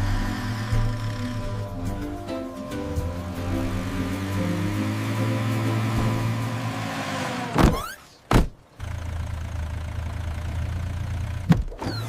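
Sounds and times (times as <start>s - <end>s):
car engine idling: 0.0s - 7.6s, 8.5s - 11.6s.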